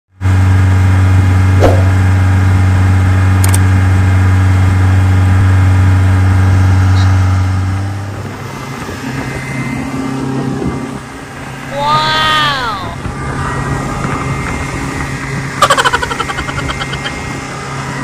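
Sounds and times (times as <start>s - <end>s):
outboard motor running: 0.2s - 18.0s.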